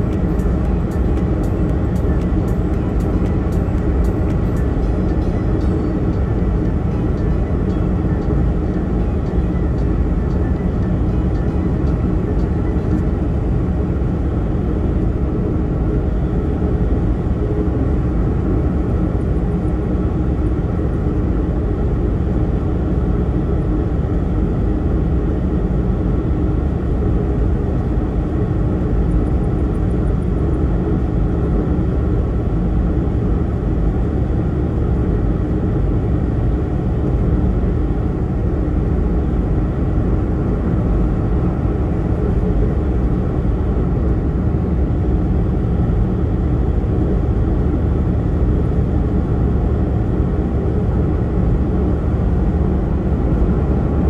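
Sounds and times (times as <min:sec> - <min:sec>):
car road noise rumble: 0:00.0 - 0:23.3, 0:27.1 - 0:54.0.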